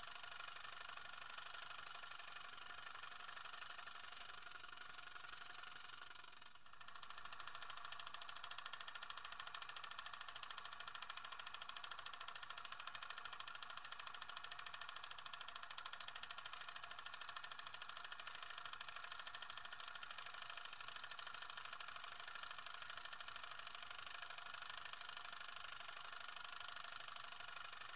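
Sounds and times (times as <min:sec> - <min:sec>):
film projector clattering: 0:00.0 - 0:27.9.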